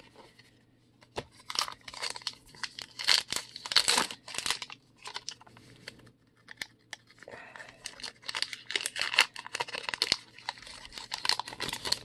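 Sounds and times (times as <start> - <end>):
card pack wrapper crinkling and tearing: 1.3 - 12.0.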